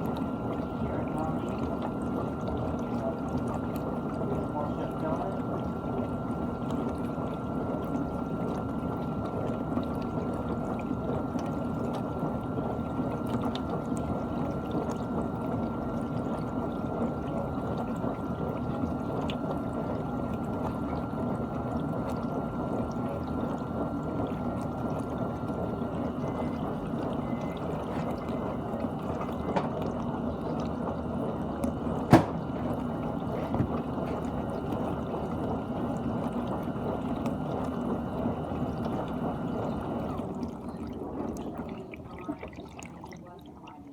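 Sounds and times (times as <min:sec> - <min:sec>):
dishwasher water sloshing: 0:00.0 - 0:43.9.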